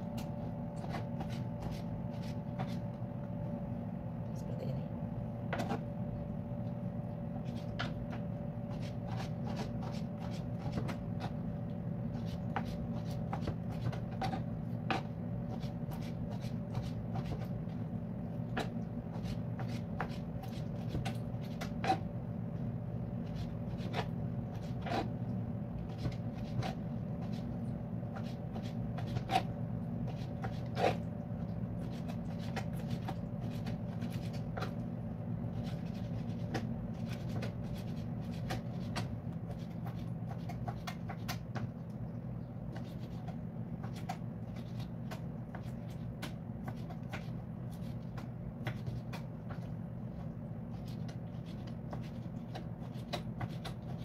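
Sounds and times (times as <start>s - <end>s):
low hum: 0.0s - 52.9s.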